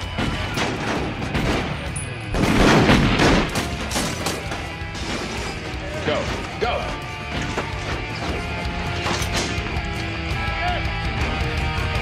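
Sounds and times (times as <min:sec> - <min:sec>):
dramatic music: 0:00.0 - 0:12.0.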